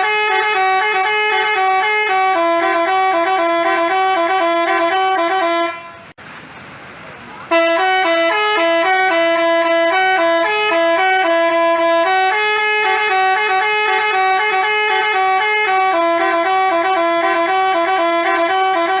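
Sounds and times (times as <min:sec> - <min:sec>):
multi-tone bus horn playing tune: 0:00.0 - 0:06.2, 0:07.5 - 0:19.0.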